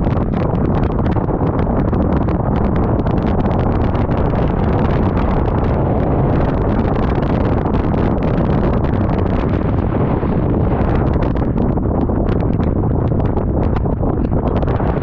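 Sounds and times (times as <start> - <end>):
vehicle moving on road: 0.0 - 15.0
wind buffeting microphone: 0.0 - 15.0.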